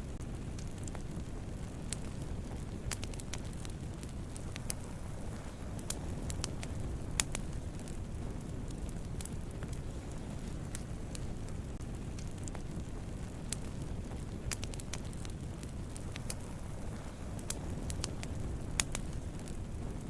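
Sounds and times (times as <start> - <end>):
campfire flames rumbling: 0.0 - 20.0
fire crackles and pops: 0.0 - 20.0.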